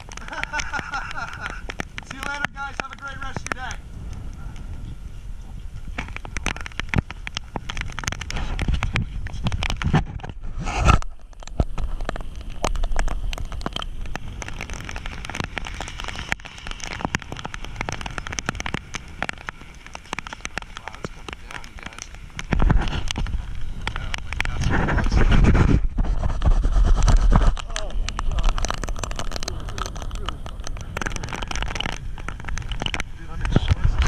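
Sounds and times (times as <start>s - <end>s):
heavy rain hitting camera: 0.0s - 34.0s.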